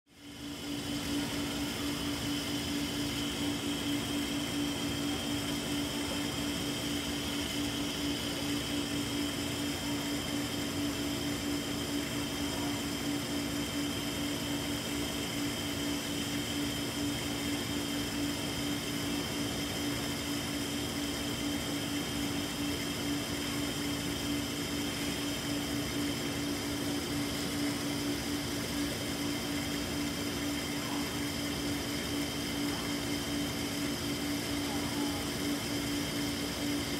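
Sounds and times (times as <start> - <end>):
aquarium pump hum: 0.1 - 36.9.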